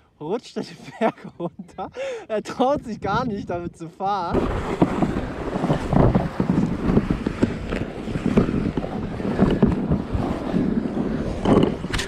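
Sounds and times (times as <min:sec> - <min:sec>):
wind blowing across microphone: 0:01.4 - 0:12.0.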